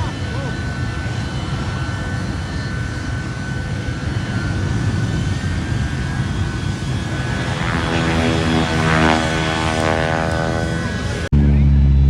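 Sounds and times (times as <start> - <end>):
aircraft engine low rumble: 0.0 - 12.0
pitched engine drone: 0.0 - 12.0.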